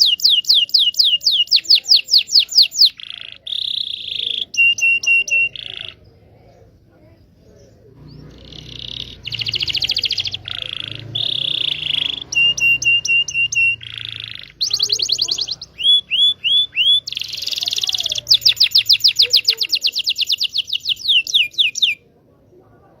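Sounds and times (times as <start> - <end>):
canary singing trills: 0.0 - 22.2.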